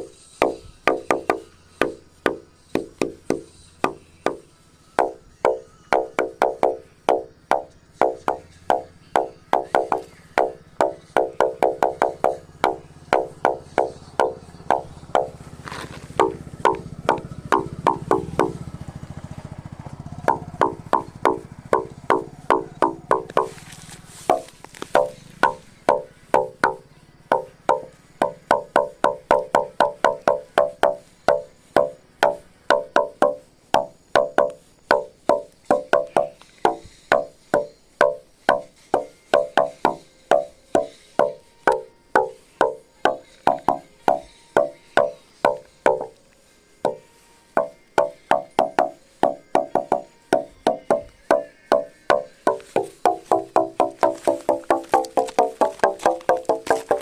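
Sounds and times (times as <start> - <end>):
hollow wooden knocks: 0.0 - 18.8, 20.0 - 46.2, 46.8 - 57.0.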